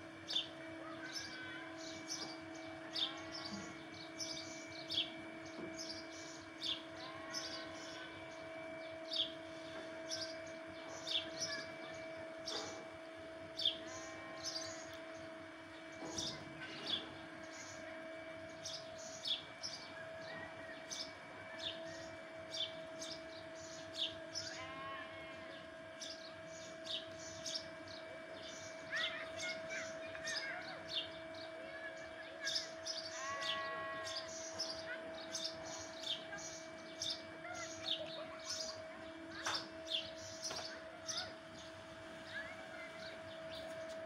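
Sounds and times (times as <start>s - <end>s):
steady low hum: 0.0s - 44.0s
birds chirping: 0.1s - 44.0s
wavering bird calls: 0.2s - 44.0s.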